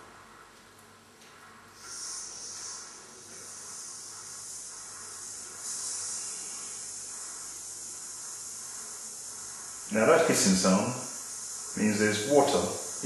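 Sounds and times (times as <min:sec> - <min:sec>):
air hissing from radiator valve: 0:01.7 - 0:13.0.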